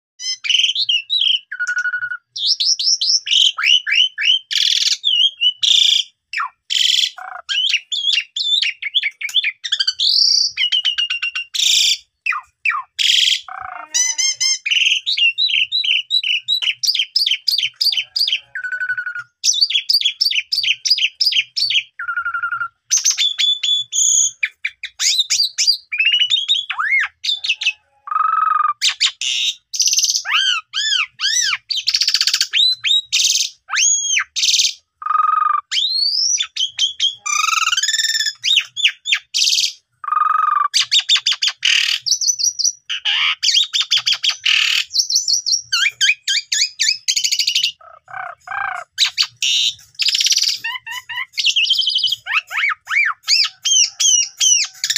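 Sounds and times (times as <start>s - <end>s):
starling singing: 0.2s - 54.9s.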